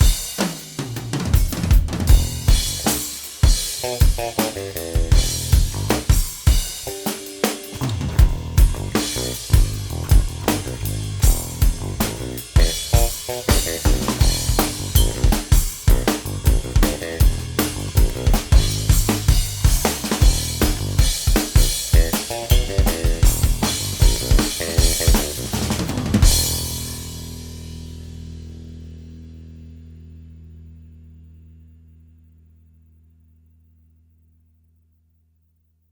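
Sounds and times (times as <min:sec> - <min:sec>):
drum-driven music with deep bass: 0:00.0 - 0:29.0.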